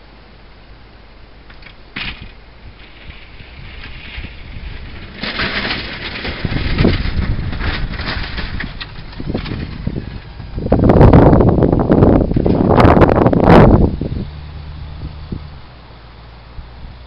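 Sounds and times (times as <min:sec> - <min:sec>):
truck engine: 0:00.0 - 0:17.0.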